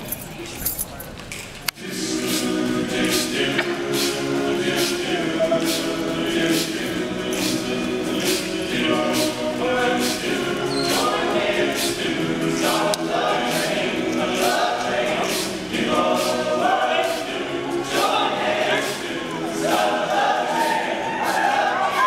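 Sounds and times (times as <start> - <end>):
male a cappella group singing: 1.8 - 22.0.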